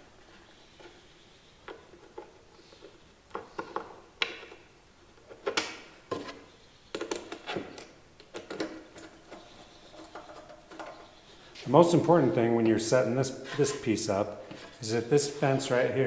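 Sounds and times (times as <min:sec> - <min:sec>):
hardware and wood clicks and knocks: 0:01.6 - 0:14.8.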